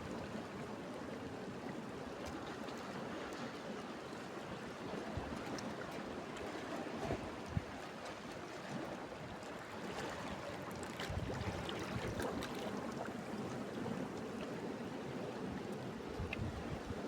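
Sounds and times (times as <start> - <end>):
sea water washing at shore: 1.3 - 17.0.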